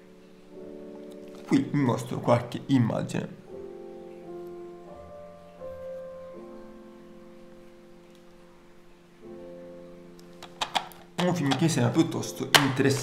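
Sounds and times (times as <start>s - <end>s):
soft instrumental music: 0.0s - 13.0s.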